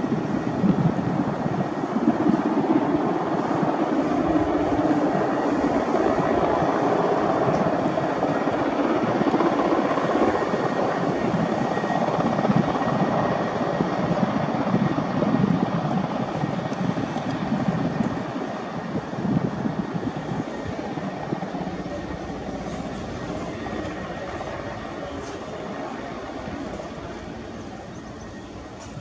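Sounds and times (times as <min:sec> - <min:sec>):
helicopter rotor beat: 0:00.0 - 0:29.0.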